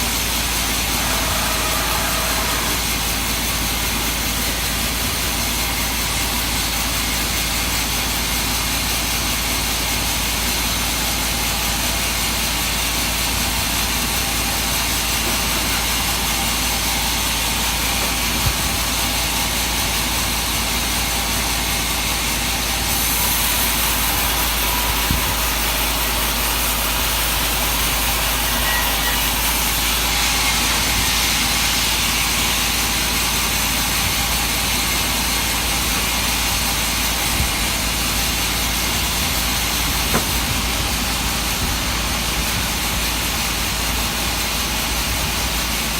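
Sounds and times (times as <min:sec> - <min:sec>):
sawmill running: 0:00.0 - 0:45.9.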